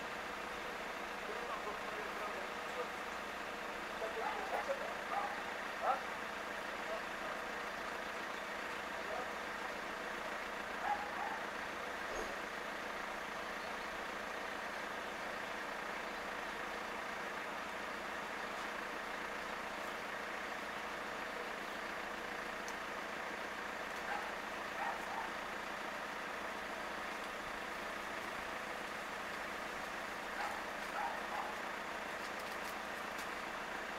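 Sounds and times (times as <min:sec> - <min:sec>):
outdoor background hum: 0:00.0 - 0:33.9.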